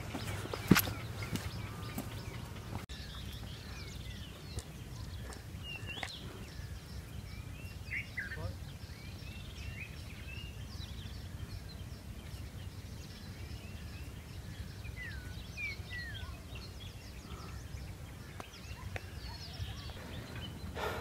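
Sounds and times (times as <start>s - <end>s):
wild birds chirping: 0.0s - 21.0s.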